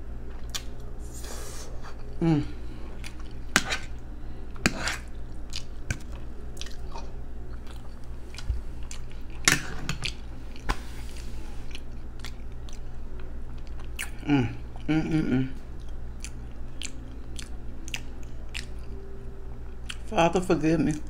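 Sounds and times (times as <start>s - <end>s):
steady low hum: 0.0s - 21.0s
person chewing food: 0.3s - 1.2s, 2.9s - 15.0s, 15.6s - 20.1s.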